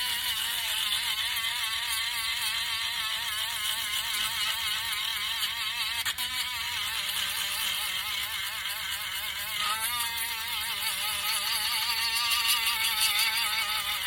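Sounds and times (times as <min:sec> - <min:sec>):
electric sander on wood: 0:00.0 - 0:14.0.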